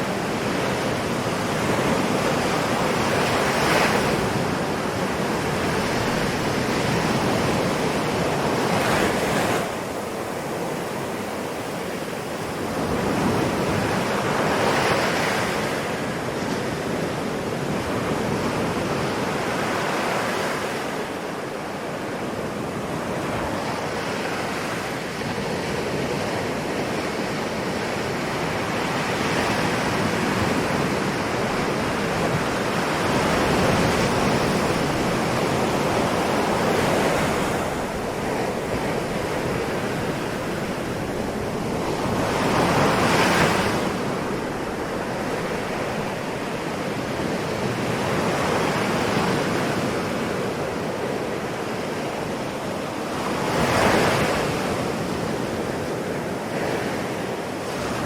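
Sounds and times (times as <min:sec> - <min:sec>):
ocean waves washing: 0:00.0 - 0:58.0
waves breaking: 0:00.0 - 0:58.0.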